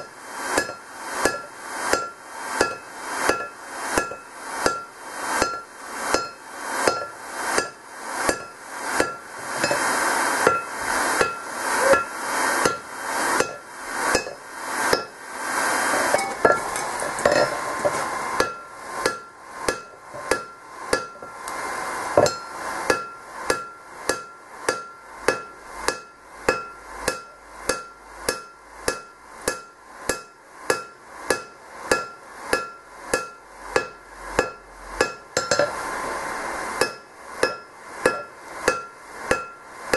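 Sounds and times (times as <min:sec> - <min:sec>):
hammer striking metal on anvil: 0:00.0 - 0:15.2, 0:16.0 - 0:21.4, 0:22.2 - 0:35.8, 0:36.8 - 0:39.7.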